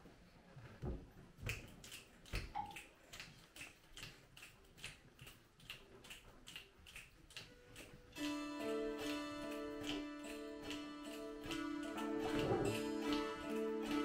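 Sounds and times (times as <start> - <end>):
finger snapping: 1.5 - 14.0.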